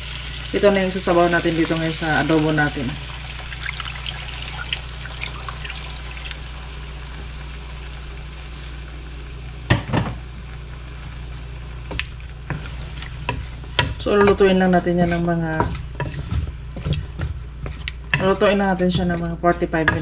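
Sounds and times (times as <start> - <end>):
marinade sizzling in a wok: 0.0 - 20.0.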